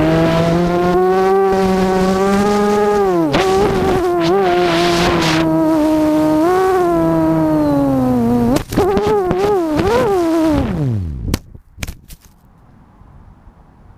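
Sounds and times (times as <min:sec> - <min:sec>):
quadcopter motors whining: 0:00.0 - 0:11.2.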